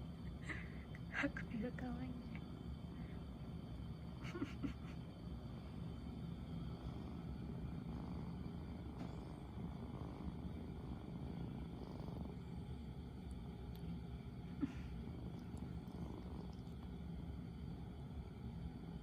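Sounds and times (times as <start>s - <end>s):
kitten purring: 0.0s - 19.0s.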